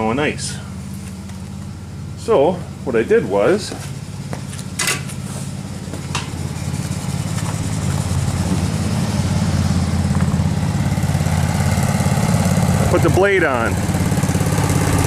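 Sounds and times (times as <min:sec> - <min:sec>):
garden tractor engine idling: 0:00.0 - 0:15.0.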